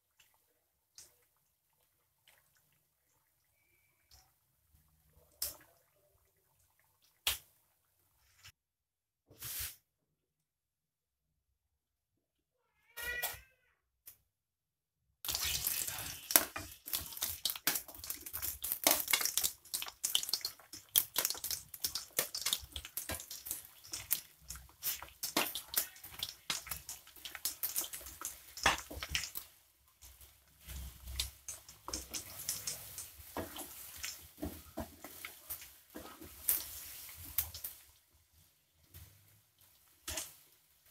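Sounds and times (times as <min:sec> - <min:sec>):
deep-frying sizzle with pops: 0:00.0 - 0:08.6, 0:15.2 - 0:40.9.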